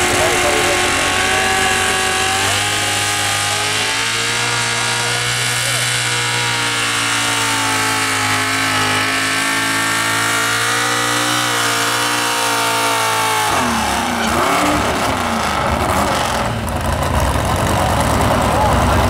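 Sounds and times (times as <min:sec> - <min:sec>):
truck engine idling and revving: 0:00.0 - 0:19.0.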